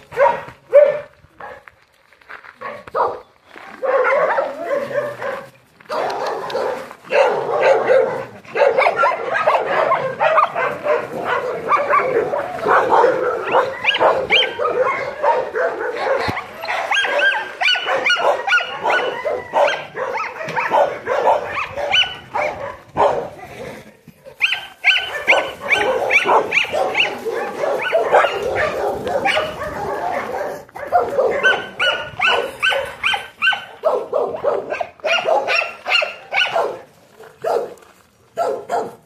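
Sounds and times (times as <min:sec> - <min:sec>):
dogs barking and yipping: 0:00.0 - 0:01.7, 0:02.6 - 0:39.0.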